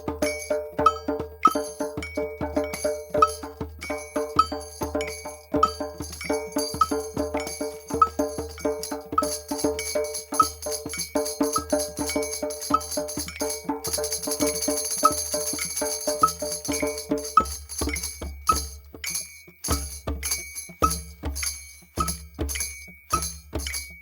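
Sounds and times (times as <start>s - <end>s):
hand drums beaten: 0.0s - 24.0s
jingling percussion: 0.0s - 24.0s.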